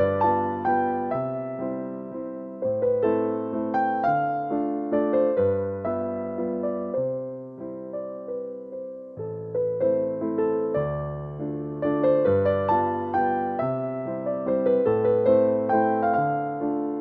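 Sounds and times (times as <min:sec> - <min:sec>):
gentle electric piano melody: 0:00.0 - 0:17.0.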